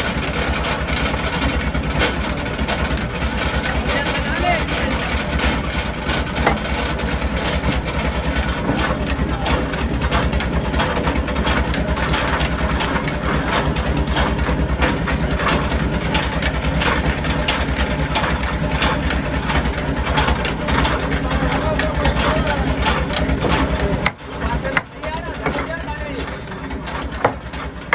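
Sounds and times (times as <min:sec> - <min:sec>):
engine idling: 0:00.0 - 0:27.9
machine knocks and clatter: 0:00.0 - 0:27.9.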